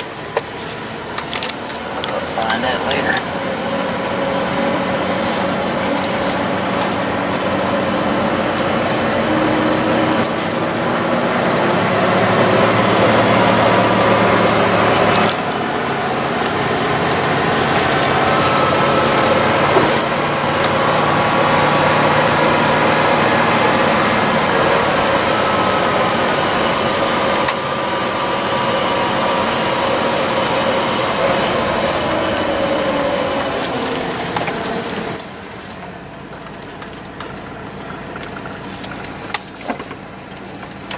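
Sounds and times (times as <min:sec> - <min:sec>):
truck engine pulling through gears: 0:00.0 - 0:40.9.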